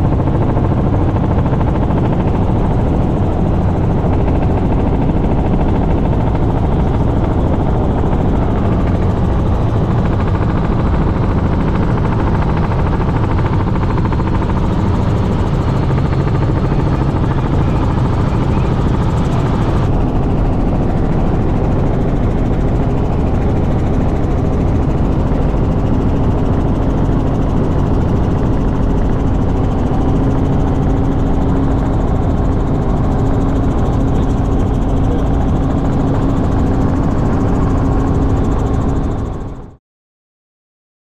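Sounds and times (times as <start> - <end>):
helicopter rotor and engine drone: 0.0 - 39.8.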